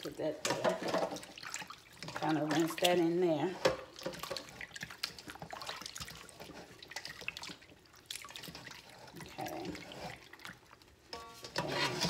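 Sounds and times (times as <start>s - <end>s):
water sloshing in a steel bowl: 0.0s - 12.0s.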